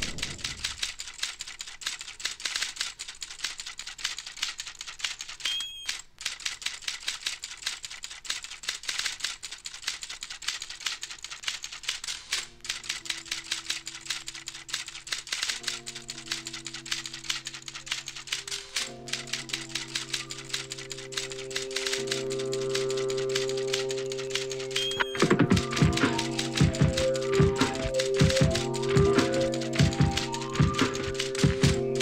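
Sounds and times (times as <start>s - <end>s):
clicking rattling percussion: 0.0s - 32.0s.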